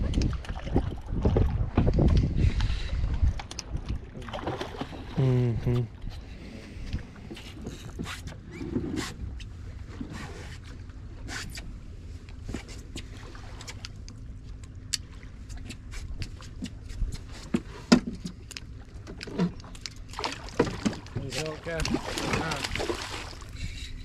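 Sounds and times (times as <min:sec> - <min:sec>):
water and wind rumble: 0:00.0 - 0:24.0.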